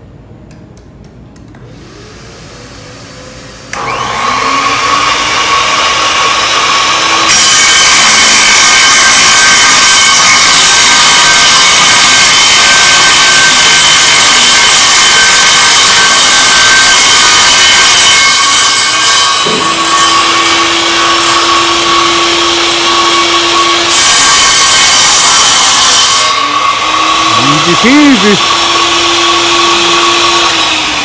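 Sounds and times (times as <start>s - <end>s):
circular saw motor whine: 1.7s - 31.0s
saw blade cutting board: 3.8s - 31.0s.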